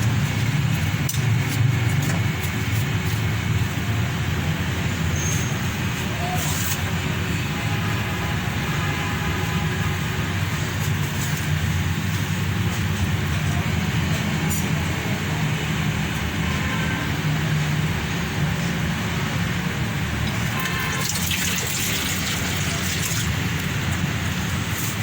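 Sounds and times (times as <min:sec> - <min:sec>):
low mechanical drone: 0:00.0 - 0:20.8.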